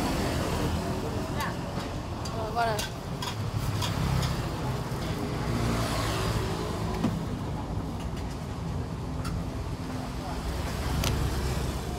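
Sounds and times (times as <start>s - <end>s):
traffic engines humming: 0.0s - 11.9s.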